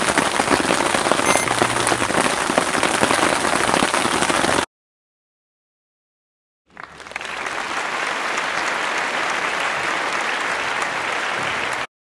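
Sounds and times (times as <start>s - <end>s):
crowd clapping: 0.0s - 4.7s, 6.7s - 11.9s.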